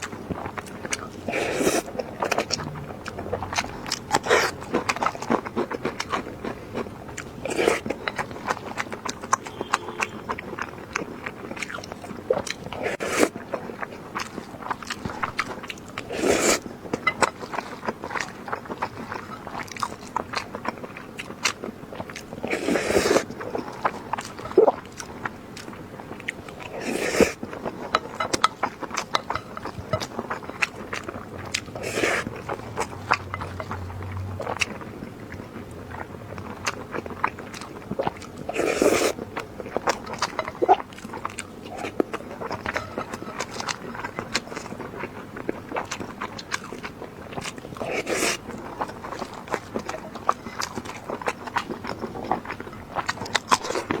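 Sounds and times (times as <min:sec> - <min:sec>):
person chewing with wet smacking: 0:00.0 - 0:54.0.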